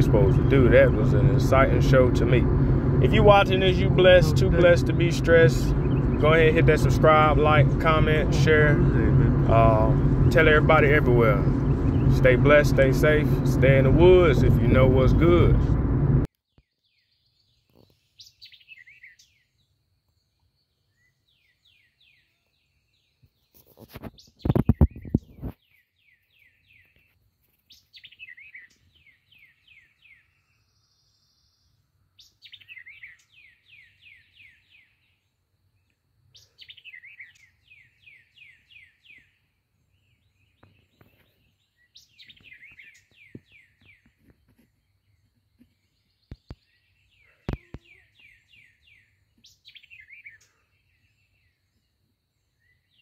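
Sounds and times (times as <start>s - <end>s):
songbird singing descending notes: 0.0s - 15.7s, 16.4s - 53.0s.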